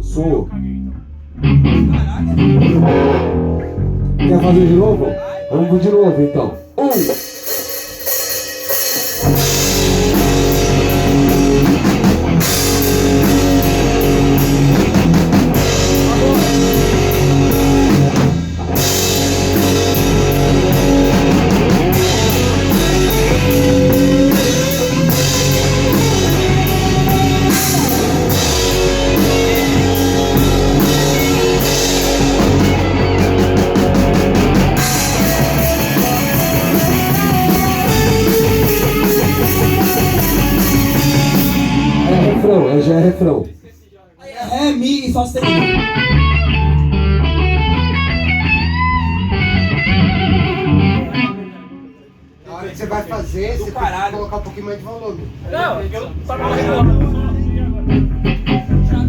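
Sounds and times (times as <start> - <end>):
rock band playing live: 1.2 - 43.0, 45.1 - 52.4, 56.4 - 59.0.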